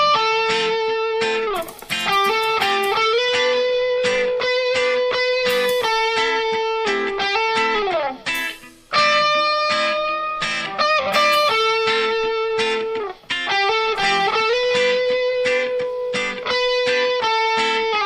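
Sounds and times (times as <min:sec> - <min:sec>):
electric guitar slow melody: 0:00.0 - 0:18.0.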